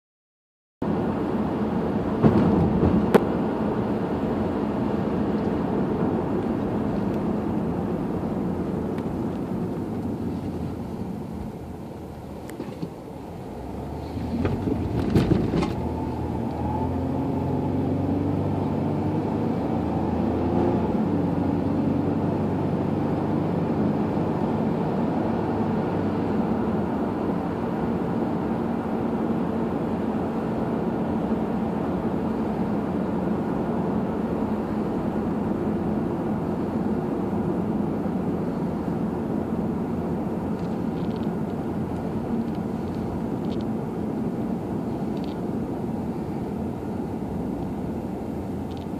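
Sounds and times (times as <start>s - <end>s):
car engine and tyre noise: 0.8s - 48.9s.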